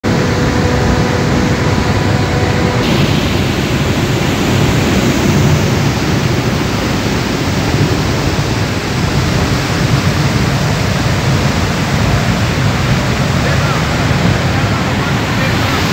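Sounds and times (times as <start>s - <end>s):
roar of jetting water: 0.0s - 15.9s.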